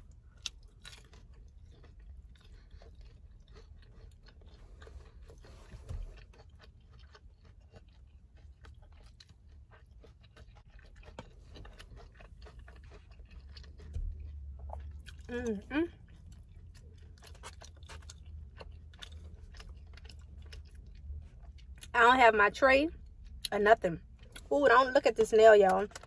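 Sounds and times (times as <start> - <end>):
person chewing: 0.0 - 21.9, 23.0 - 24.5, 25.7 - 26.0.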